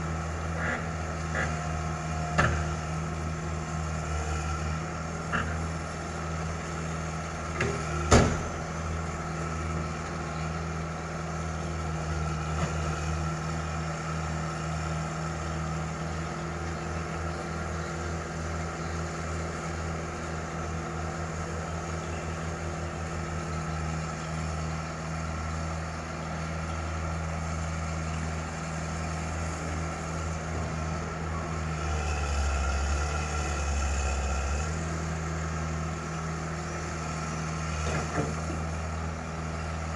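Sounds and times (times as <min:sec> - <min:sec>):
distant diesel engine running: 0:00.0 - 0:39.9.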